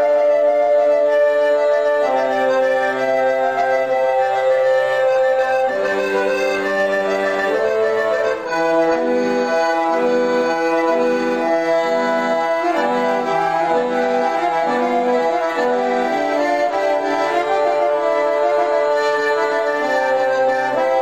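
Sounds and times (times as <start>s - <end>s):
solo accordion dance tune: 0.0s - 21.0s.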